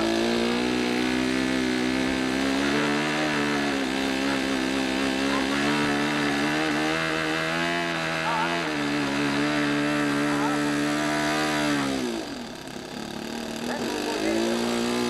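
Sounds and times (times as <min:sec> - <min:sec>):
model airplane engine running: 0:00.0 - 0:15.0.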